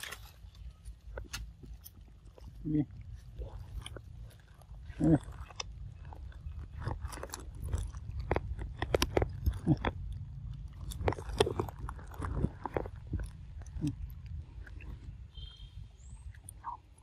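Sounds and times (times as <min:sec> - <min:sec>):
monkeys chewing fruit: 0:00.0 - 0:17.0.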